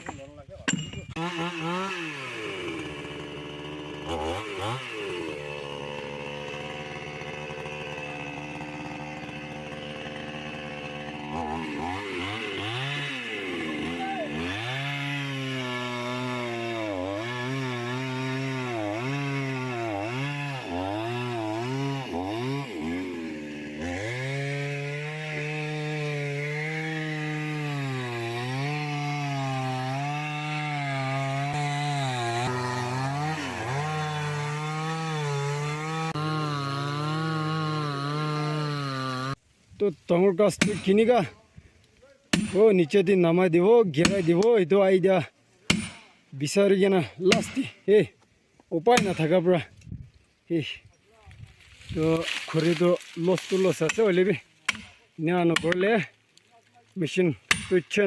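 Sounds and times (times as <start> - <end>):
chainsaw cutting wood: 0.0 - 39.4, 40.4 - 41.3, 42.0 - 42.9, 43.9 - 44.6, 45.6 - 48.3, 48.9 - 50.0, 51.6 - 58.0.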